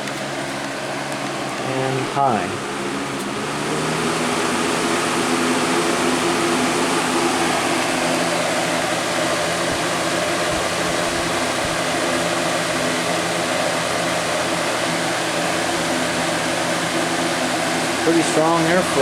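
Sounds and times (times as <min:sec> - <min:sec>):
box fan running: 0:00.0 - 0:19.0.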